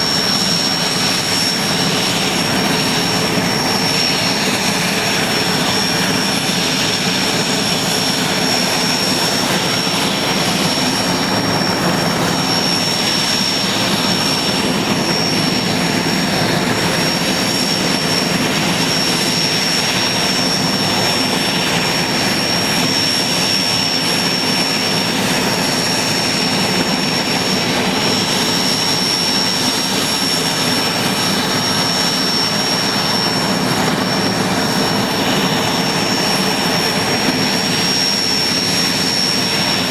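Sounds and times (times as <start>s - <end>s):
helicopter engines and rotor: 0.0s - 39.9s
high-pitched turbine whine: 0.0s - 39.9s.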